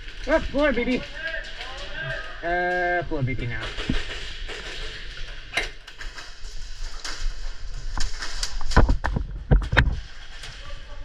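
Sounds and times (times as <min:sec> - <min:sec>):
sharp clicks and knocks: 0:00.0 - 0:10.6.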